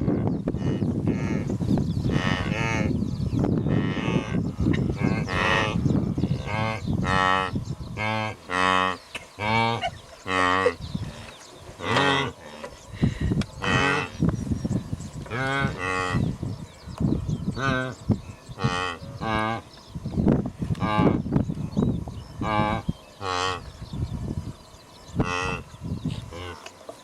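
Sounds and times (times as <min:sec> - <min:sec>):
wildebeest grunting: 0:00.0 - 0:14.4, 0:15.3 - 0:16.7, 0:17.4 - 0:19.8, 0:20.7 - 0:21.3, 0:22.4 - 0:24.0, 0:25.1 - 0:26.7.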